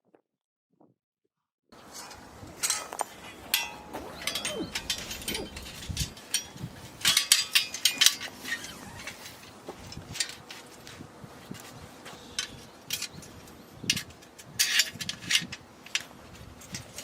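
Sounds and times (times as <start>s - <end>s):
steady background noise: 1.8s - 17.0s.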